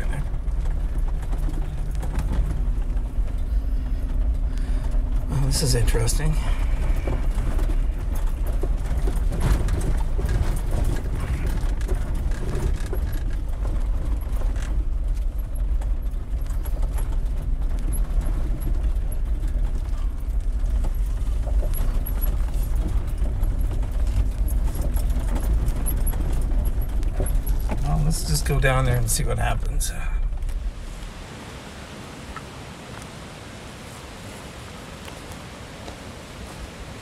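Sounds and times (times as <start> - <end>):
gear rattling and creaking: 0.0 - 31.0
engine and tyres rumbling on gravel: 0.0 - 37.0.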